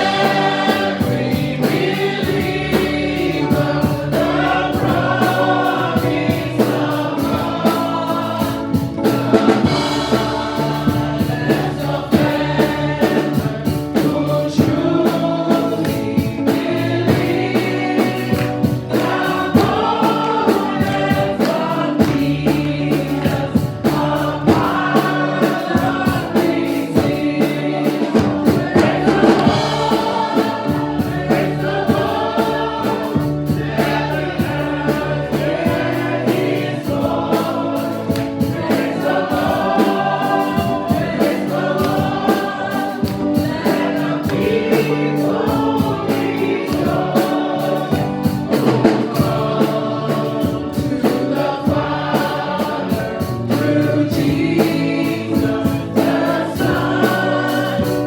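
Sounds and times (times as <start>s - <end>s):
band with steady beat: 0.0s - 58.0s
choir singing: 0.0s - 58.0s.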